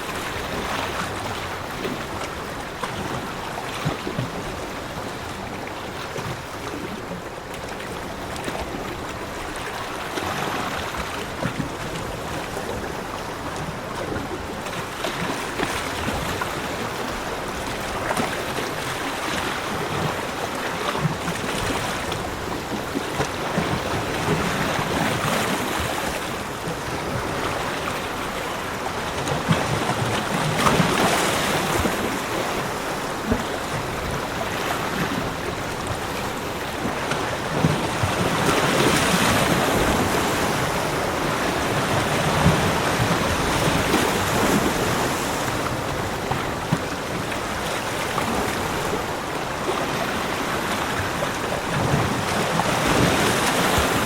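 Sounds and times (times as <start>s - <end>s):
ocean waves on beach: 0.0s - 54.0s.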